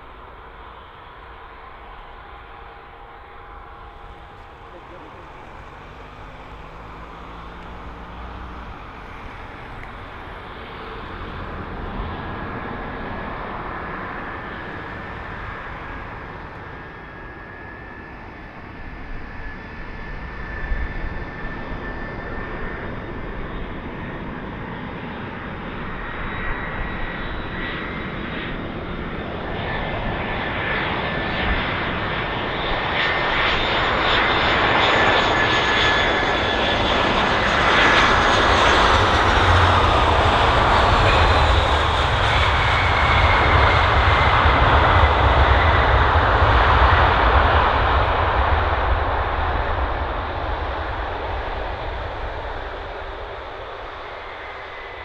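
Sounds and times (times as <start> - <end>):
aircraft engines rumbling: 0.0 - 55.0
high steady engine whine: 0.0 - 55.0.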